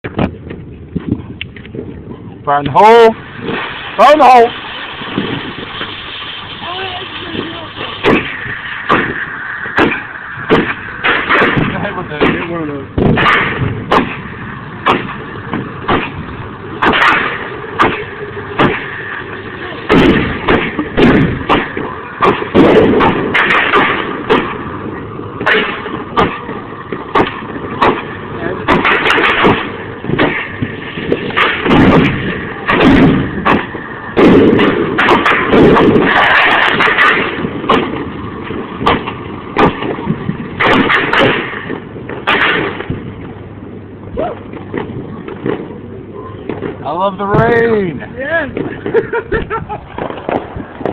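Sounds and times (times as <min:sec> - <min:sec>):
fireworks banging: 0:00.0 - 0:50.9
rumbling echo: 0:00.0 - 0:50.9
firework pops: 0:03.4 - 0:16.2, 0:16.8 - 0:19.0, 0:19.8 - 0:24.6, 0:25.4 - 0:43.1, 0:44.5 - 0:45.8, 0:48.5 - 0:50.9.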